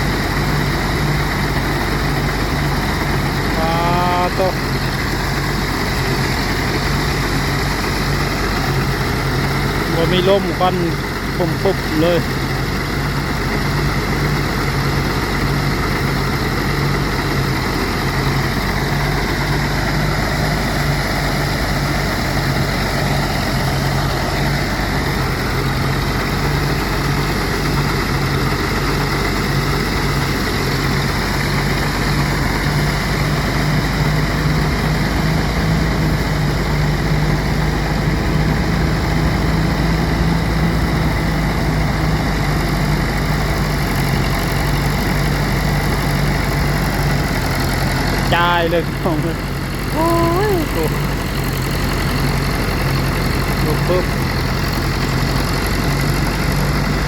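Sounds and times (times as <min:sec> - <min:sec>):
rice thresher engine running: 0:00.0 - 0:57.0.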